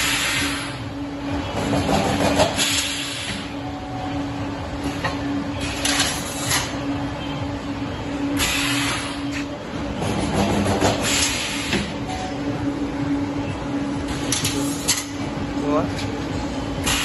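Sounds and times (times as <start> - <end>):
pulsing machine hum: 0.0 - 17.0.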